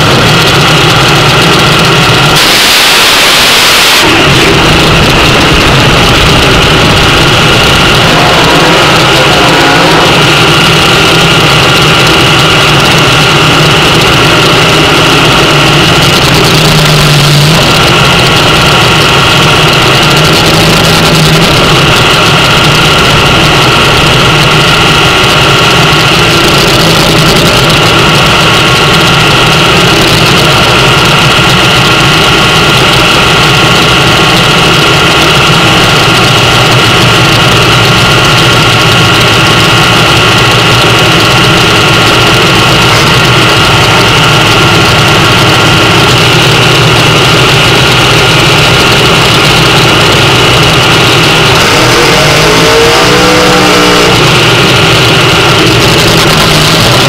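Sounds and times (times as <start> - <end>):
dragster engine idling: 0.0 - 57.0.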